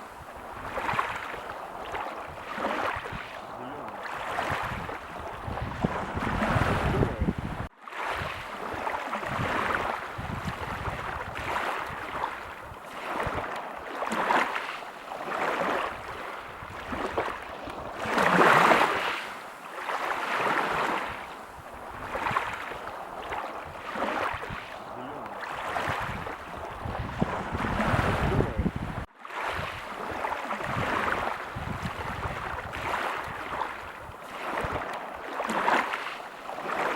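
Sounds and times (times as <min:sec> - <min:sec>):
waves breaking on a beach: 0:00.0 - 0:36.9.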